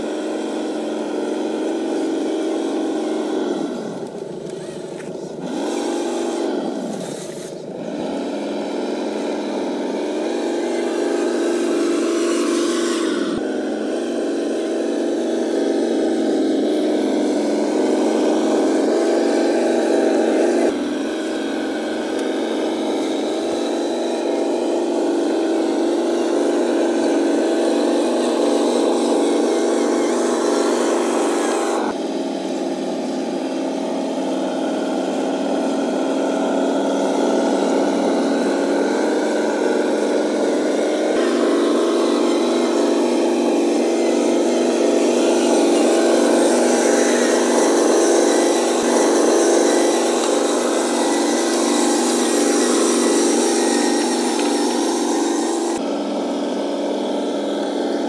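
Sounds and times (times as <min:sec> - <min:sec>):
toy truck diesel engine sound: 0:00.0 - 0:58.0.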